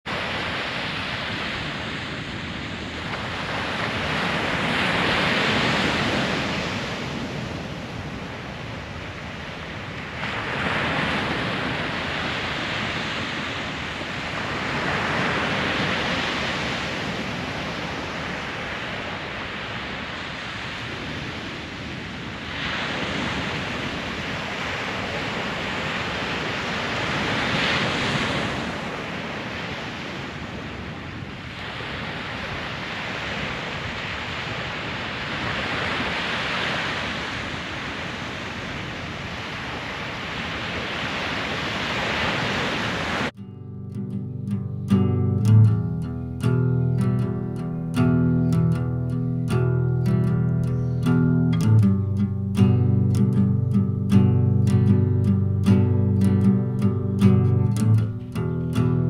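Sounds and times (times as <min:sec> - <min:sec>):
ocean waves breaking: 0:00.1 - 0:59.0.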